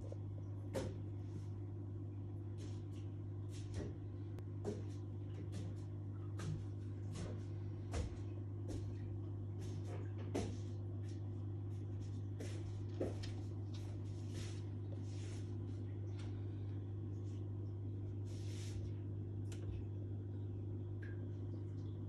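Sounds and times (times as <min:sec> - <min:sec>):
aquarium equipment hum: 0:00.0 - 0:22.0.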